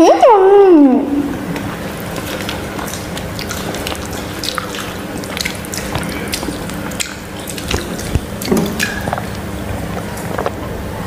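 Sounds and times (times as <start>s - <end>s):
low steady hum: 0.0s - 11.0s
mouths chewing: 1.6s - 10.8s.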